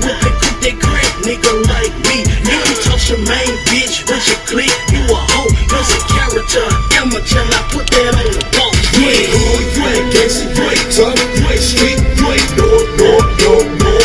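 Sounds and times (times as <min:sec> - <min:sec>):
rapping over a beat: 0:00.0 - 0:14.0
sliding deep bass notes: 0:00.0 - 0:14.0.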